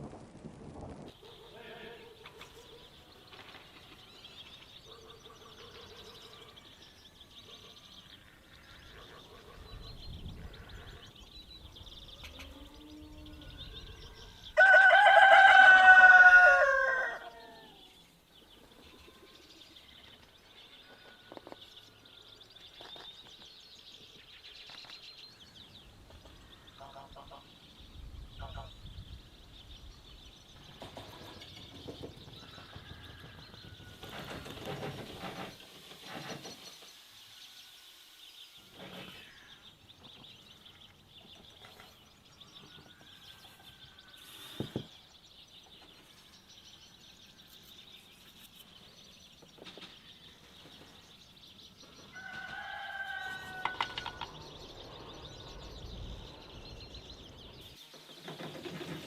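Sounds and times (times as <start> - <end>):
birds chirping: 1.1 - 59.0.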